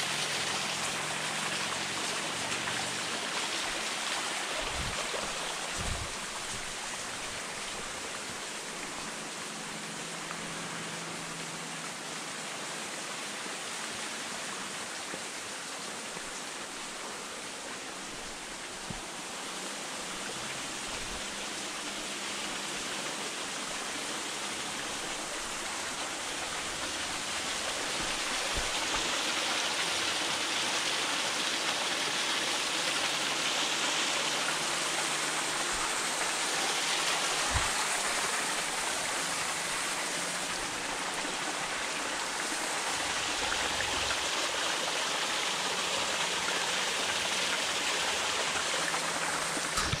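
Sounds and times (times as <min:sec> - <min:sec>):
creek rushing over rocks: 0:00.0 - 0:50.0.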